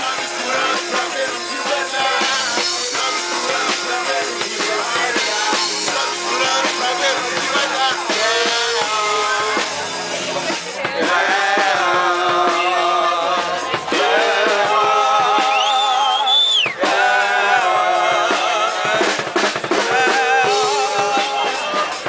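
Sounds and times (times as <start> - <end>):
drum kit beat: 0.0 - 22.0
live rock band playing: 0.0 - 22.0.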